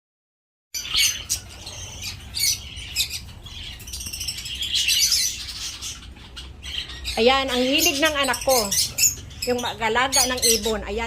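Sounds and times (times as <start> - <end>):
caged birds chirping: 0.8 - 11.0.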